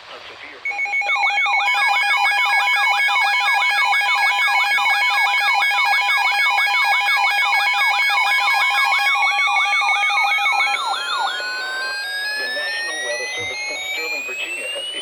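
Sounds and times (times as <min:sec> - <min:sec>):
electronic alert tone with warble: 0:00.7 - 0:15.0.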